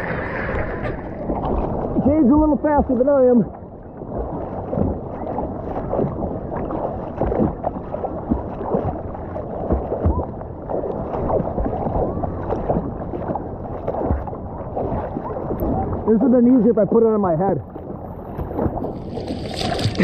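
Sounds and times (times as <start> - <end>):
seawater sloshing and splashing: 0.0 - 20.0.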